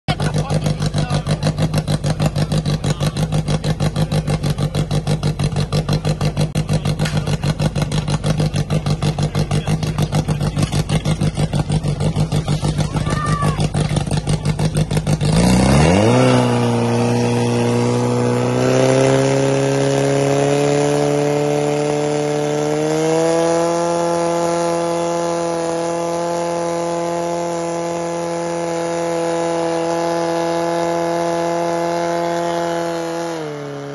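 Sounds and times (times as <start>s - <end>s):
pump engine revving: 0.1s - 33.9s.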